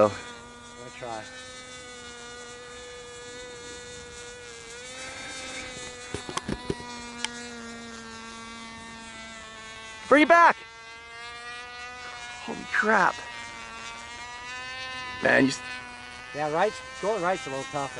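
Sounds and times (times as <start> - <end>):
model airplane motor droning: 0.0 - 17.9.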